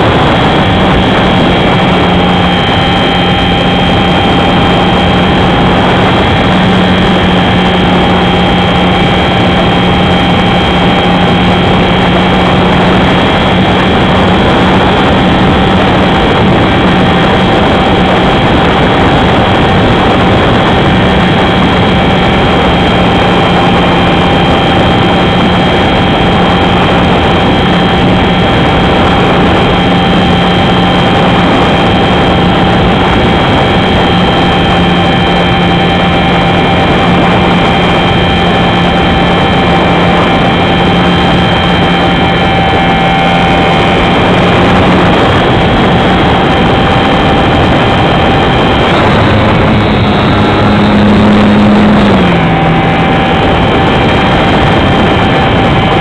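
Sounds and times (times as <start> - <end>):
model plane motor and propeller: 0.0 - 56.0
wind rushing over microphone: 0.0 - 56.0.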